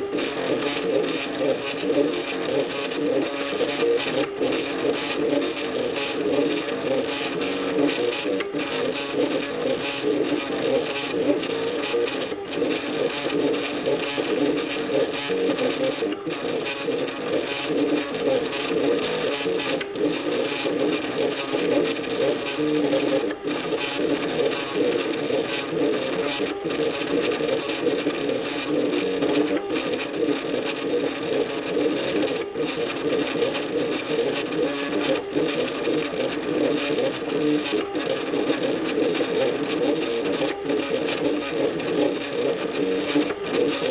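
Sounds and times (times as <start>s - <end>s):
printer stepper motors whining: 0.0s - 43.9s.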